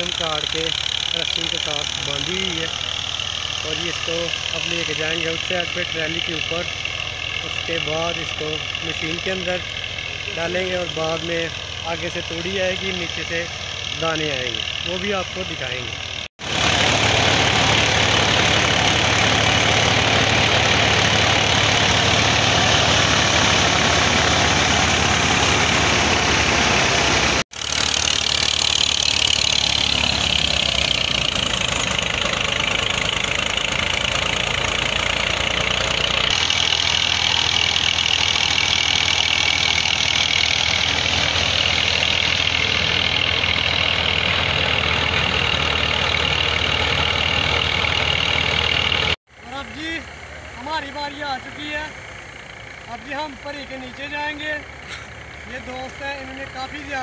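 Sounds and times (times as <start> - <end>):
threshing machine rattling: 0.0 - 49.2, 52.4 - 57.0
tractor engine drone: 0.0 - 57.0.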